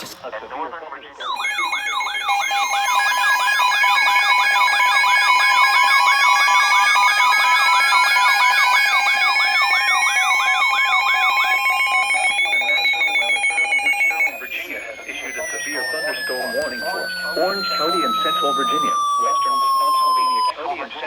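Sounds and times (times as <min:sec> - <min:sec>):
pulsing beeps: 0:01.2 - 0:20.5
warbling siren-like tone: 0:01.2 - 0:20.5
rising alert tone: 0:01.3 - 0:20.5.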